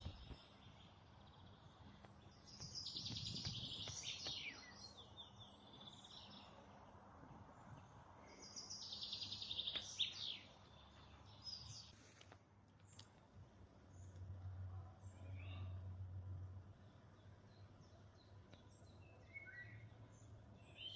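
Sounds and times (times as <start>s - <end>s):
songbird trilled song: 0.0s - 12.0s, 15.0s - 16.0s, 16.8s - 20.9s.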